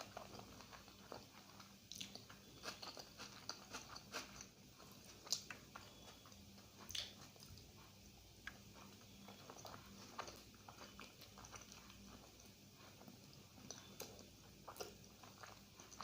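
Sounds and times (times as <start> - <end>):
faint wet chewing: 0.0 - 16.0.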